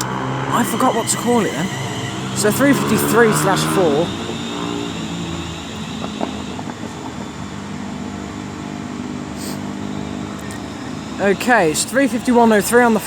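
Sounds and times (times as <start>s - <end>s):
electric train motor hum: 0.0s - 13.0s
higher tone: 0.0s - 13.0s.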